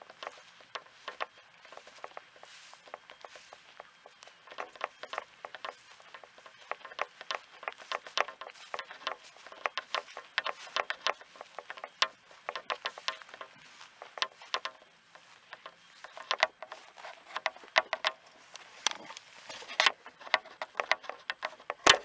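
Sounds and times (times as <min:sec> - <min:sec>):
rattle of carried gear: 0:00.0 - 0:22.0.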